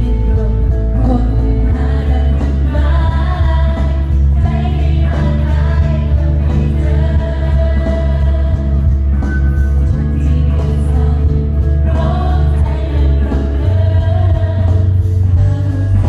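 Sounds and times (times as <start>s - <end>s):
amplified instrumental with heavy bass: 0.0s - 16.0s
choir singing pop song: 0.0s - 16.0s
woman singing lead vocal: 0.0s - 16.0s.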